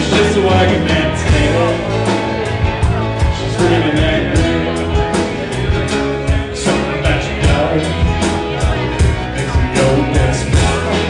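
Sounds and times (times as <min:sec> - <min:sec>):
live country-rock band playing: 0:00.0 - 0:11.0.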